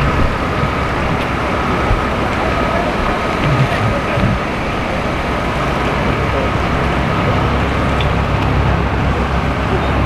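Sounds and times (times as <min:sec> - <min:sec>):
machinery rumble: 0:00.0 - 0:10.0.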